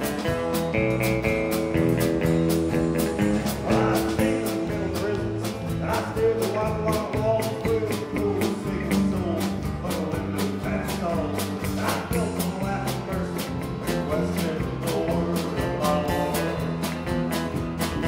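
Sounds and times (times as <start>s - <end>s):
drum kit beat: 0.0s - 18.0s
electric guitars: 0.0s - 18.0s
strummed acoustic guitar: 0.0s - 18.0s
man singing: 2.7s - 18.0s.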